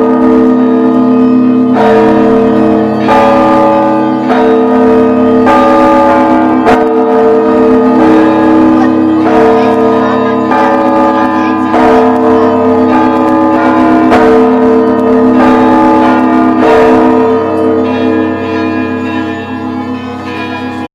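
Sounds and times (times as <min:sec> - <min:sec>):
church bells ringing: 0:00.0 - 0:20.9.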